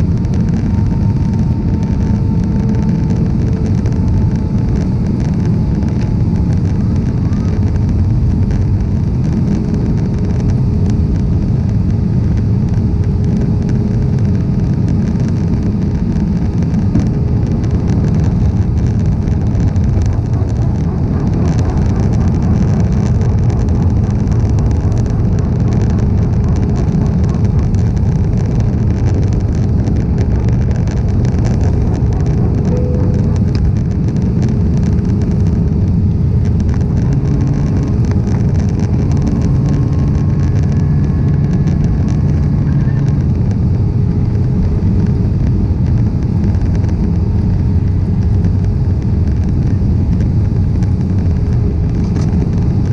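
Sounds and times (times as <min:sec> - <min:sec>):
faint steady hum: 0:00.0 - 0:52.9
jet engines roaring: 0:00.0 - 0:52.9.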